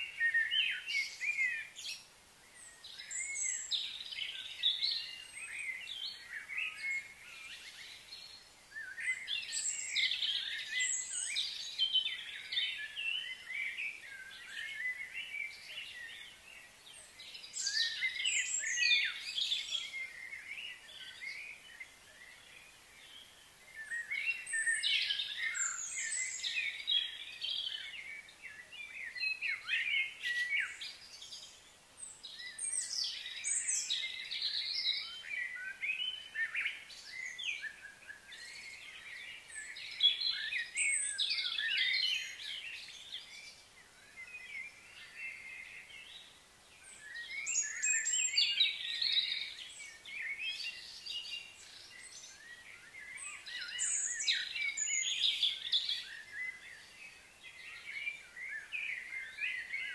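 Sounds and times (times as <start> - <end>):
outdoor background hiss: 0.0 - 59.9
small birds chirping: 0.0 - 59.9.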